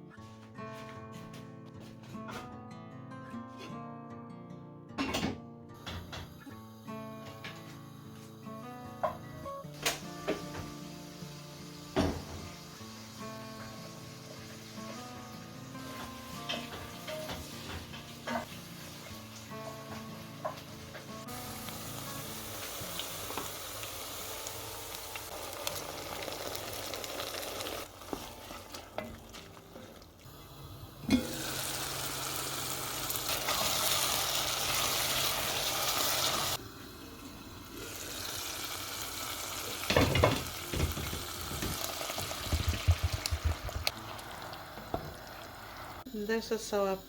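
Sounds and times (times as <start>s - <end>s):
food sizzling in a pot: 5.8s - 47.0s.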